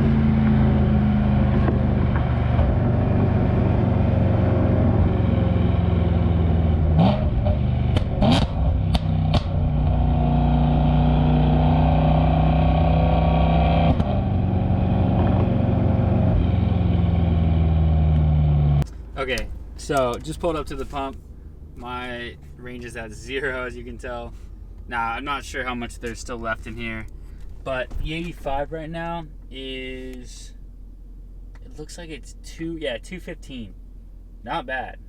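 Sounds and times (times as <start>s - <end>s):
car engine running: 0.0s - 34.8s.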